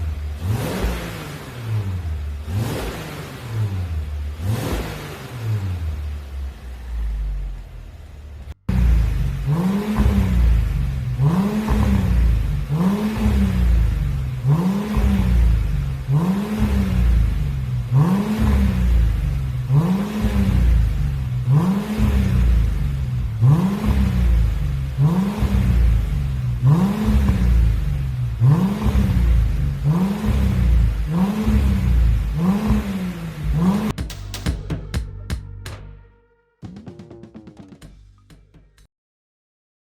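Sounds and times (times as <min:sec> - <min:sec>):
car engine revving: 0:00.0 - 0:38.6.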